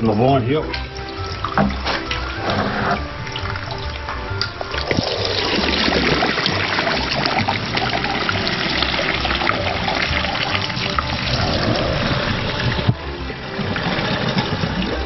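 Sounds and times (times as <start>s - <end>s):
background music with beat: 0.0s - 15.0s
wine splashing into a jug: 0.6s - 15.0s.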